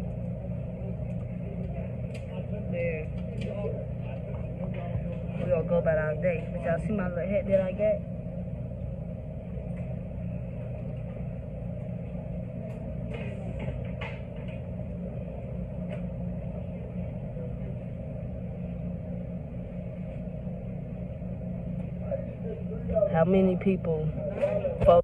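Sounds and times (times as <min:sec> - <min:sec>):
dryers and washing machines droning: 0:00.0 - 0:25.0.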